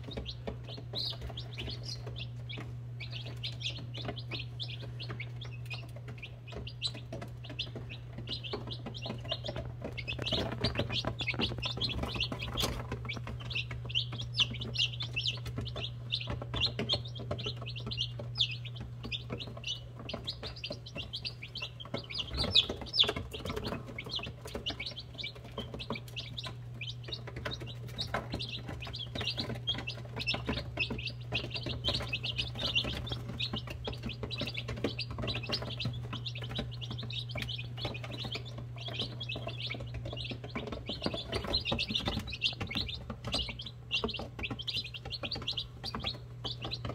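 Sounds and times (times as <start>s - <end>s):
chicks peeping: 0.0s - 46.9s
steady low hum: 0.0s - 46.9s.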